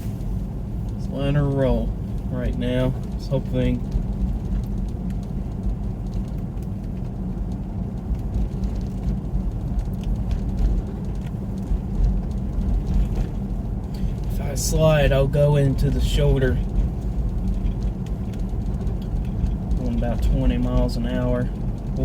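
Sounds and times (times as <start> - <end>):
car engine: 0.0 - 22.0
tyre and road noise: 0.0 - 22.0.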